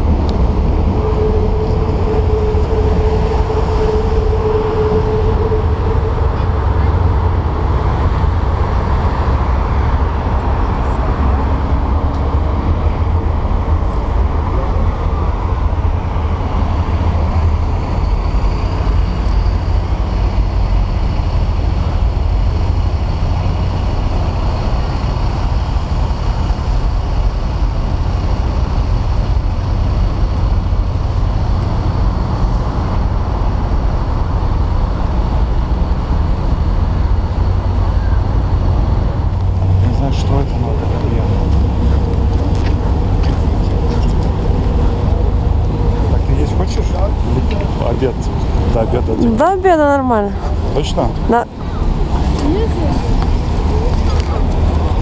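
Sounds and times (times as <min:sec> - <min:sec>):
outdoor city noise: 0:00.0 - 0:55.0.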